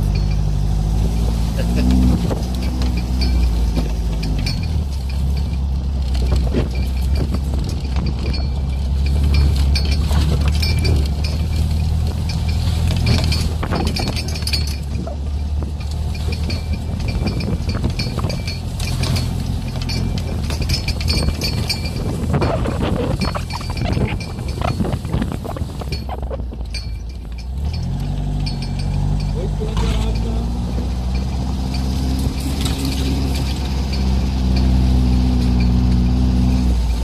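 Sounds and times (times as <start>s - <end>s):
buggy engine droning: 0.0s - 37.0s
loose gear rattling: 0.0s - 37.0s.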